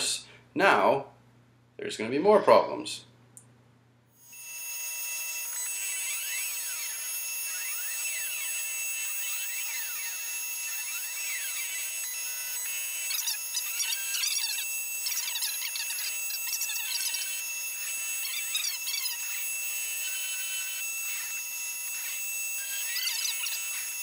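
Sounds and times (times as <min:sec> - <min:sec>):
spindle motor whine: 0:04.2 - 0:24.0
stepper motors whining: 0:04.2 - 0:24.0.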